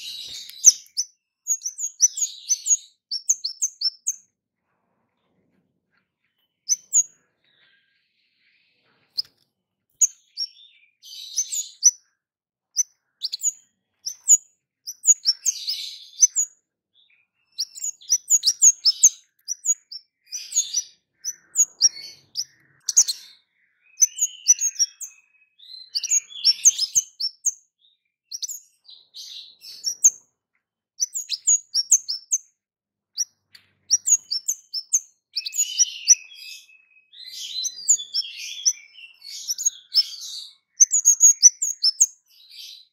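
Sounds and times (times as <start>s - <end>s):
bird twittering phrases: 0.0s - 4.4s, 6.2s - 42.9s.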